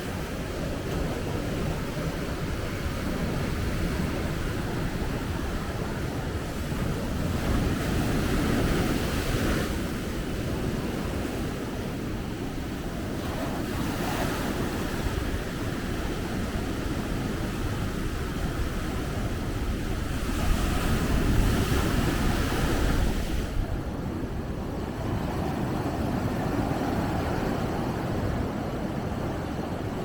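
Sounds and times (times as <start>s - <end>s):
sea waves breaking on beach: 0.0s - 30.0s.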